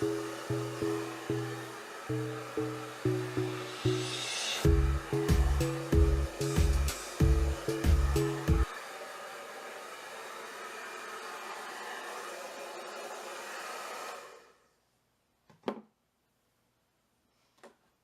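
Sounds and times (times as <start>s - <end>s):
hair dryer blowing: 0.0s - 14.8s.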